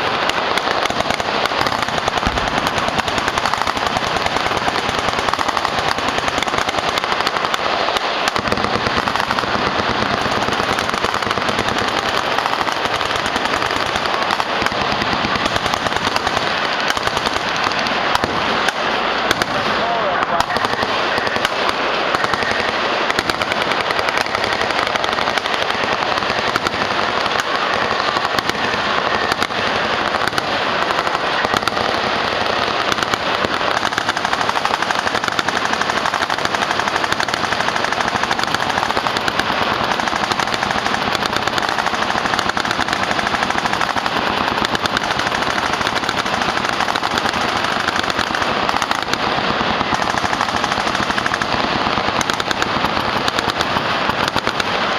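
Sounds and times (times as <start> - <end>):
machine guns firing full-auto: 0.0 - 54.9.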